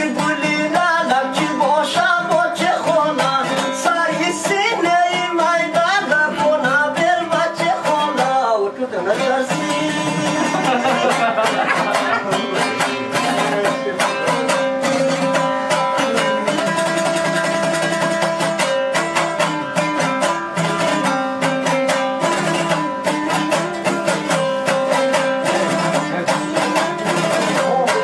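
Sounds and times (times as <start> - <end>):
lute strummed fast: 0.0 - 28.0.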